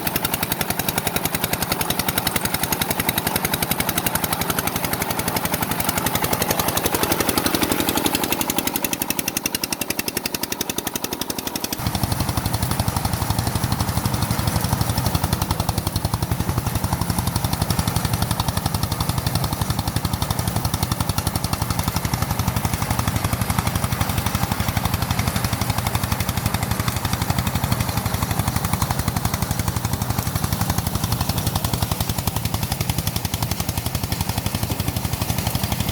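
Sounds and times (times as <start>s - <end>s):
small engine chugging: 0.0s - 35.9s.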